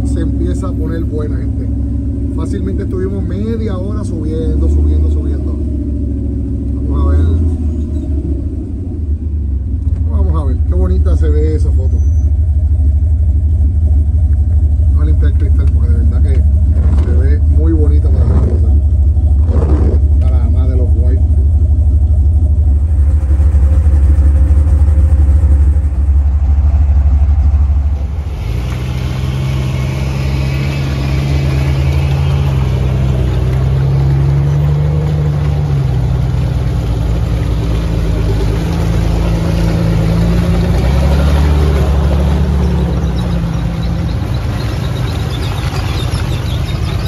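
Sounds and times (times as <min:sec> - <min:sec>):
engine revving under load: 0:00.0 - 0:12.1, 0:14.9 - 0:21.2, 0:22.8 - 0:47.0.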